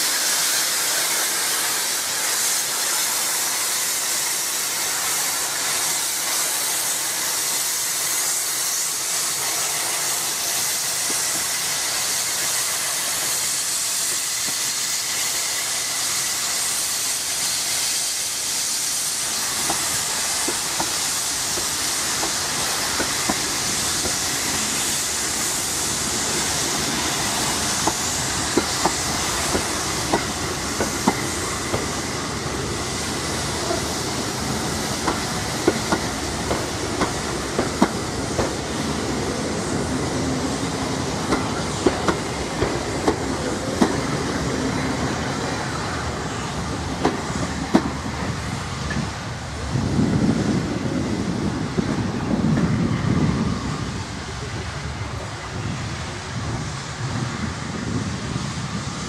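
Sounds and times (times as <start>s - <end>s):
hiss of escaping steam: 0.0s - 59.0s.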